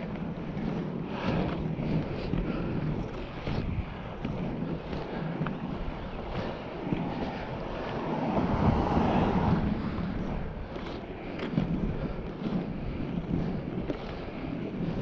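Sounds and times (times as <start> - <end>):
skate wheels rolling on concrete: 0.0 - 15.0
wind on microphone: 0.0 - 15.0.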